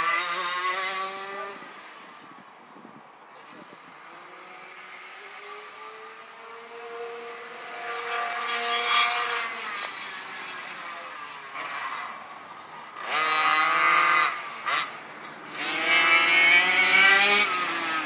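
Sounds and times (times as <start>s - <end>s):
kart engine buzzing: 0.0s - 2.3s, 3.3s - 18.0s.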